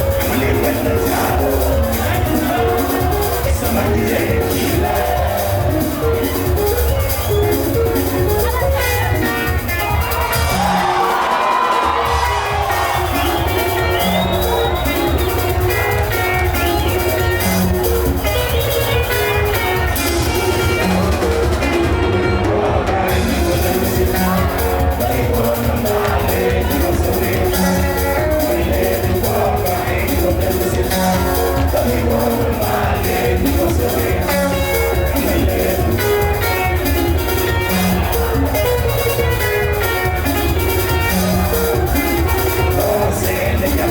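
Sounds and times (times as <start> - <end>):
guitar lines: 0.0 - 43.9
heavy bass: 0.0 - 43.9
live band music: 0.0 - 43.9
steady drumbeat: 0.0 - 43.9.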